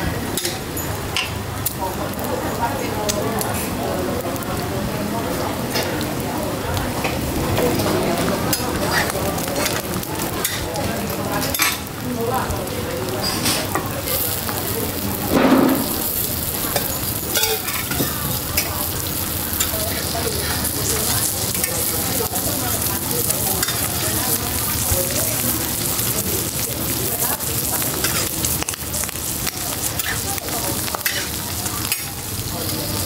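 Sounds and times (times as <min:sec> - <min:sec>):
roti sizzling on griddle: 0:00.0 - 0:33.0.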